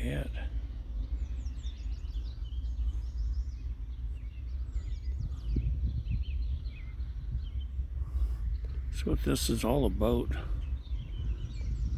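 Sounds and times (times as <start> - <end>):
small birds chirping: 0.0 - 11.9
steady low rumble: 0.0 - 11.9.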